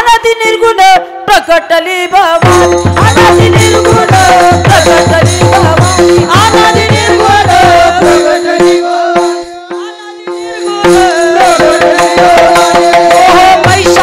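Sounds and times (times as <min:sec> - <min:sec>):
person singing: 0:00.0 - 0:14.0
hand drum beats: 0:02.4 - 0:14.0
harmonium holding notes: 0:02.5 - 0:14.0.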